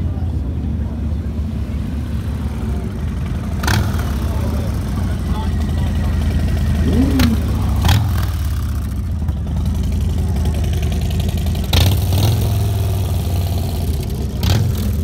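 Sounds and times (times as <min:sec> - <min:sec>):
motorcycle engine idling: 0:00.3 - 0:15.0.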